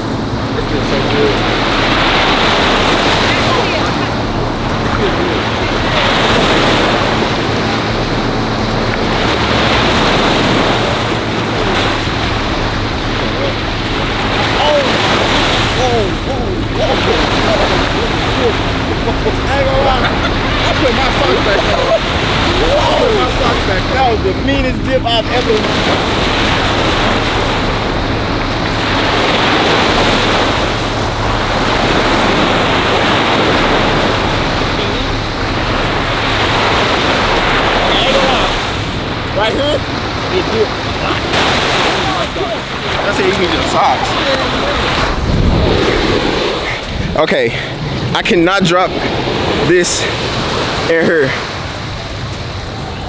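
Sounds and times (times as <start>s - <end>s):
small waves breaking in shallows: 0.0s - 53.0s
surf washing onto beach: 0.0s - 53.0s
wind buffeting microphone: 0.0s - 53.0s.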